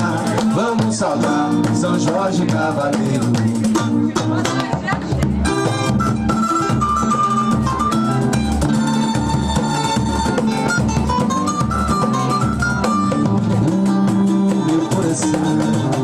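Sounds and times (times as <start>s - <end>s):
acoustic guitar: 0.0s - 16.0s
hand drums: 0.0s - 16.0s
low bass drum beat: 0.0s - 16.0s
plucked strings: 0.0s - 16.0s.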